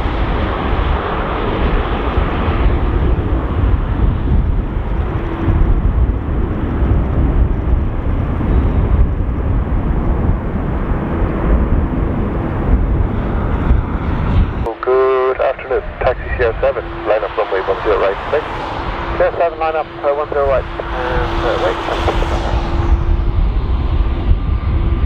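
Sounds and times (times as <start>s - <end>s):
jet engine roar at takeoff: 0.0s - 25.0s.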